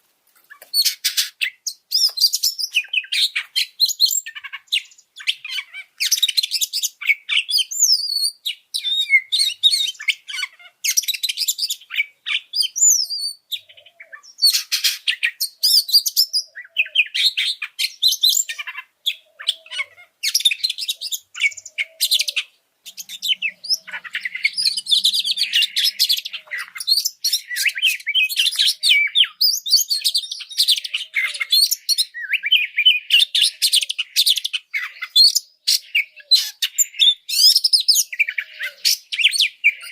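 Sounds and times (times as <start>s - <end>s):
bird singing chirps and trills: 0.5s - 39.9s.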